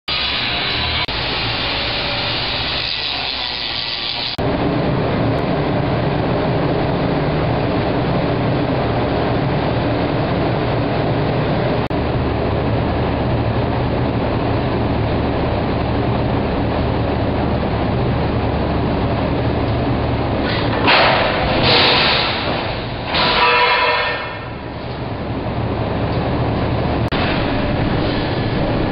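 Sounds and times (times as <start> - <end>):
heavy machinery droning: 0.1 - 28.9.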